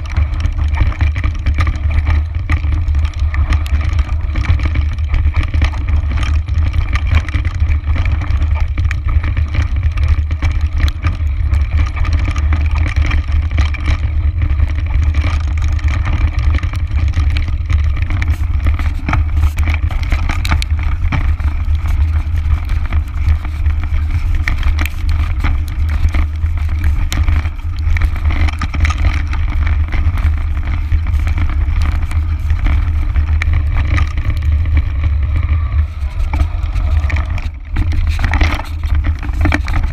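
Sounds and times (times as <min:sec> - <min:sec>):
bike clicks and knocks over rocks: 0:00.0 - 0:39.9
tyre noise: 0:00.0 - 0:39.9
wind buffeting microphone: 0:00.0 - 0:39.9.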